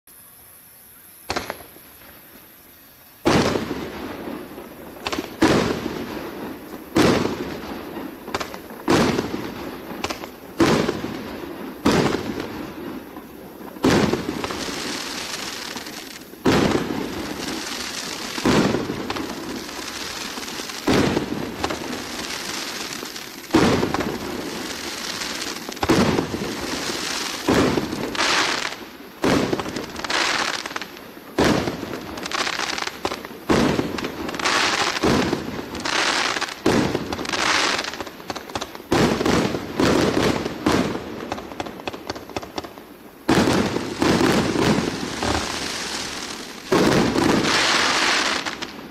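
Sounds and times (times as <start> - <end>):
firework fizzing hiss: 0.6 - 48.9
firework shots: 1.2 - 2.3, 3.2 - 48.9.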